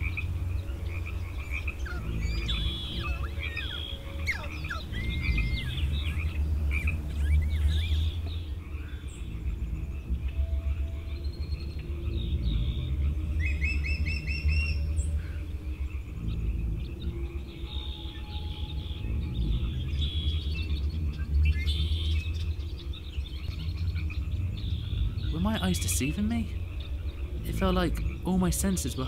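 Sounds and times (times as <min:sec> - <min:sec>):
birds chirping and whistling: 0:00.0 - 0:29.0
low rumble: 0:00.0 - 0:29.0.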